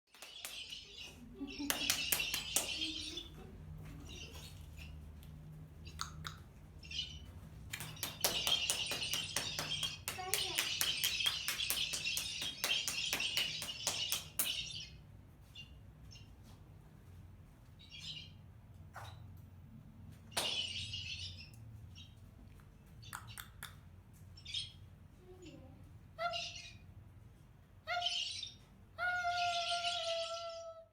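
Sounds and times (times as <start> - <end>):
bird chirping: 0.1 - 5.1, 5.8 - 16.4, 17.8 - 18.4, 20.3 - 22.2, 23.0 - 26.9, 27.9 - 30.8.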